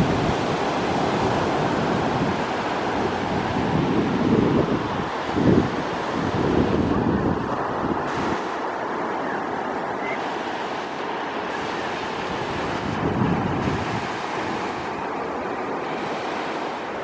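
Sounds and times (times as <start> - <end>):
wind buffeting microphone: 0.0 - 9.0, 11.1 - 17.0
surf washing onto beach: 0.0 - 17.0.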